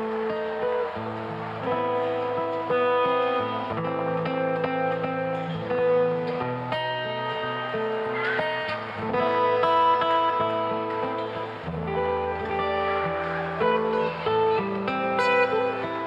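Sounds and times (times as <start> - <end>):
acoustic guitar plucking jazz: 0.0 - 16.0.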